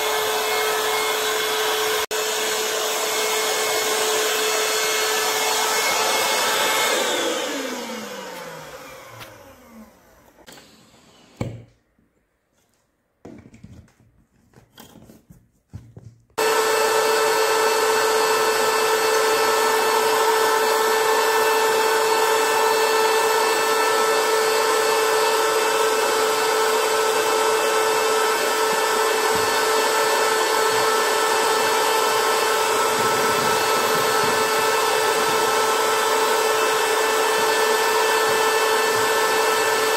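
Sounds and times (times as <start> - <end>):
air pump motor whine: 0.0 - 11.7, 16.4 - 39.9.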